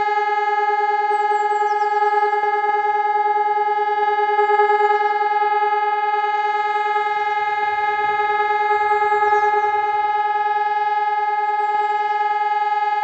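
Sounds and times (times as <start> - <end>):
siren steady tone: 0.0 - 13.0.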